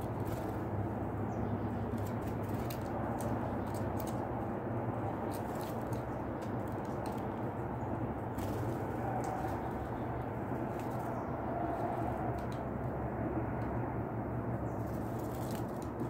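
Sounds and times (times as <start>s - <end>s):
birds pecking on concrete: 0.0s - 13.0s, 14.6s - 16.0s
low hum: 0.0s - 16.0s.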